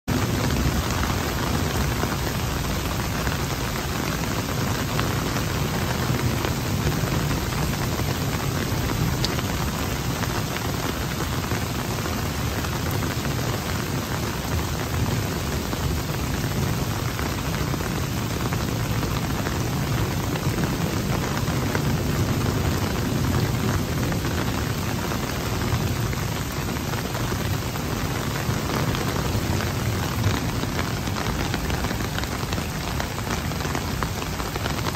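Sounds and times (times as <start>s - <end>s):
turbulent water rushing: 0.1s - 34.9s.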